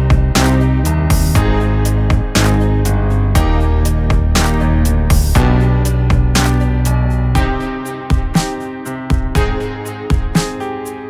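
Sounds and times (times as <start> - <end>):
electronic instrumental music: 0.0 - 11.0.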